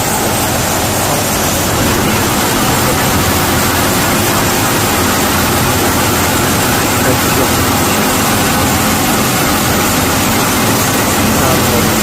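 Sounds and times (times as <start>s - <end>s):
sawmill machinery rushing: 0.0s - 12.0s.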